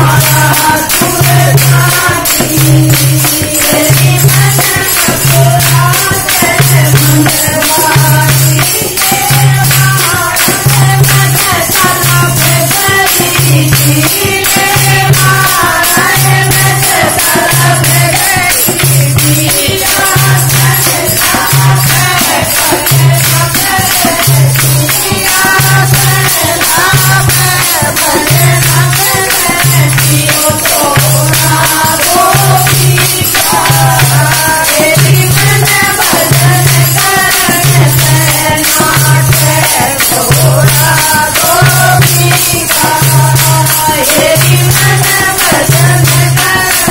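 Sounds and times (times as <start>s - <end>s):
jingling hand percussion: 0.0s - 46.9s
women singing folk song: 0.0s - 46.9s.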